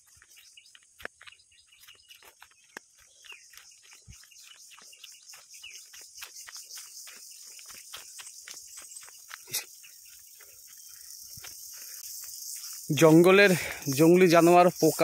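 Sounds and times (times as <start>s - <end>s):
footsteps through undergrowth: 0.0s - 15.0s
insects chirring: 0.0s - 15.0s.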